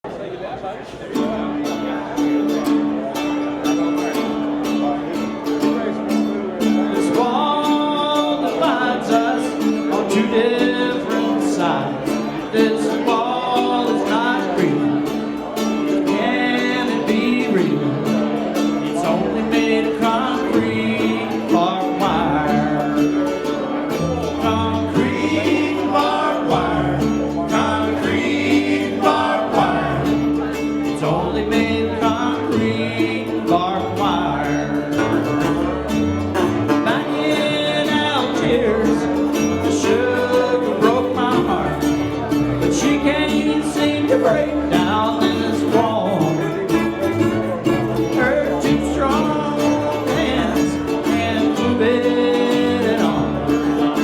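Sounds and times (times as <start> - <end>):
band playing country music: 1.2 - 54.0.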